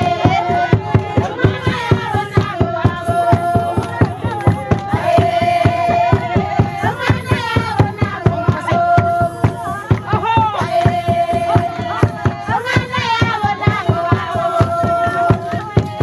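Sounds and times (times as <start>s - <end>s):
fast hand-clapping: 0.0s - 16.0s
group of voices singing: 0.0s - 16.0s.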